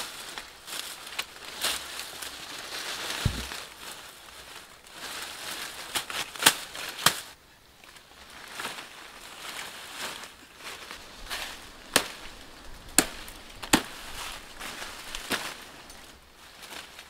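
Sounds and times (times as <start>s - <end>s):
rustling and crackling: 0.0s - 17.0s.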